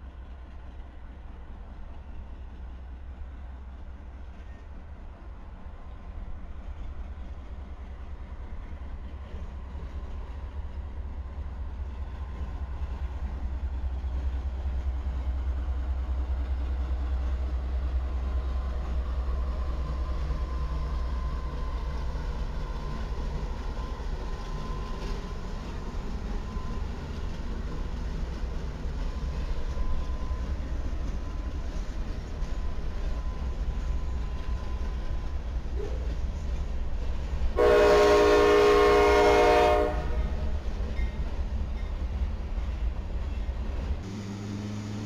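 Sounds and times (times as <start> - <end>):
freight train low rumble: 0.0 - 45.0.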